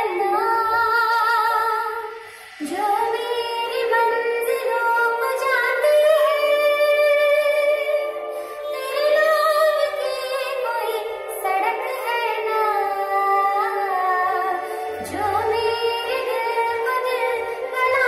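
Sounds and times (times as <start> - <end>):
woman singing into a microphone: 0.0 - 18.0.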